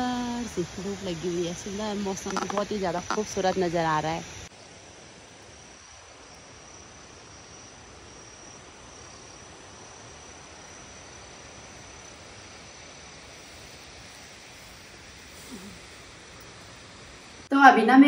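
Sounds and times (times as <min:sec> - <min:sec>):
insects chirring: 0:00.0 - 0:17.5
background hiss: 0:00.0 - 0:18.0.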